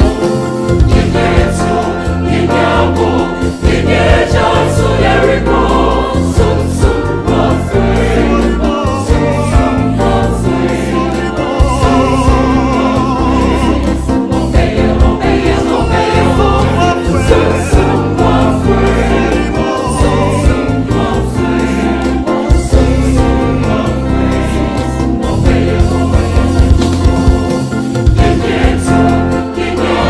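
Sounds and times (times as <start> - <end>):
gospel choir singing: 0.0 - 30.0
instrumental backing with heavy bass: 0.0 - 30.0.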